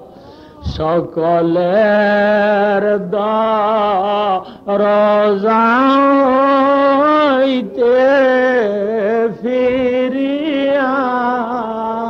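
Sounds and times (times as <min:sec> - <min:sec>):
man singing a devotional chant: 0:00.6 - 0:12.0.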